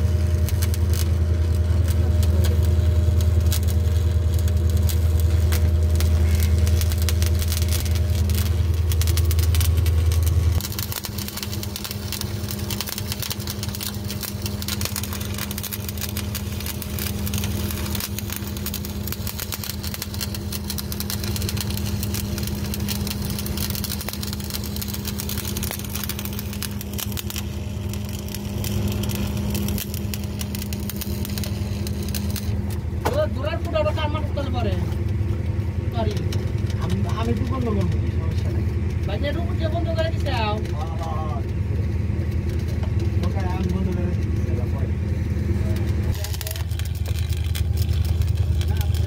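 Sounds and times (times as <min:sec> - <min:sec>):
deep low hum: 0:00.0 - 0:49.0
electrical hum: 0:00.0 - 0:49.0
welding arc crackling: 0:00.0 - 0:49.0.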